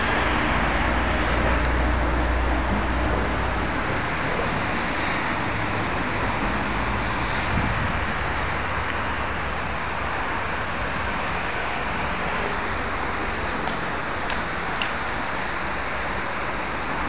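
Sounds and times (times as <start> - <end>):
cars driving on road: 0.0 - 17.0.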